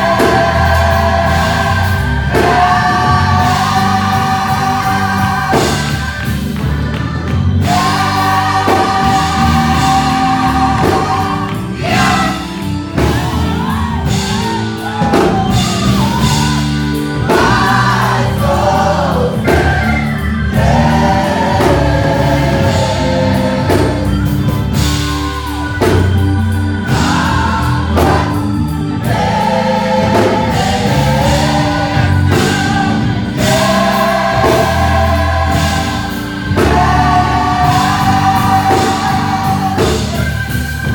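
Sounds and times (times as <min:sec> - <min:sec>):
bass and drums: 0:00.0 - 0:40.9
gospel choir singing: 0:00.0 - 0:40.9.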